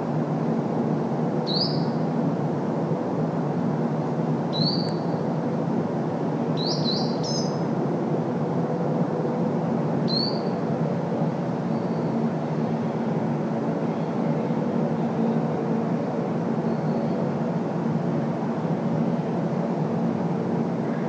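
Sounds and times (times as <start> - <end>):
distant road traffic hum: 0.0 - 21.0.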